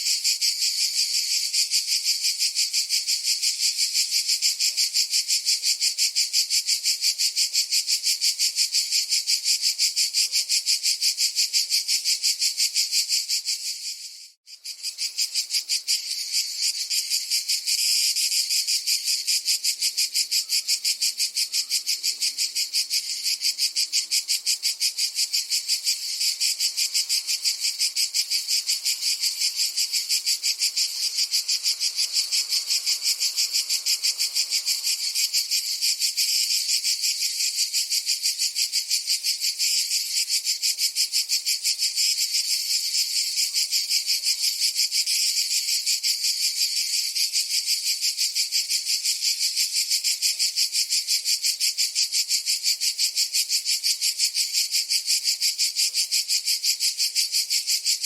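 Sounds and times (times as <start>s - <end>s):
cicada buzzing: 0.0s - 58.0s.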